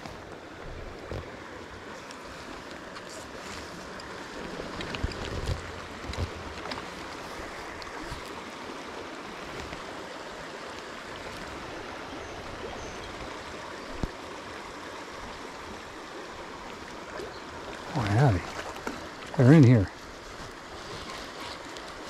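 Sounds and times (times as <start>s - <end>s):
stream flowing over riffles: 0.0s - 22.0s.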